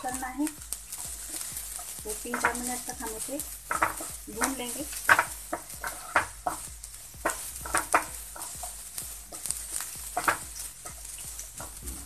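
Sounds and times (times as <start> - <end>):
soft frying sizzle: 0.0 - 12.0
spatula scraping pan: 0.0 - 12.0.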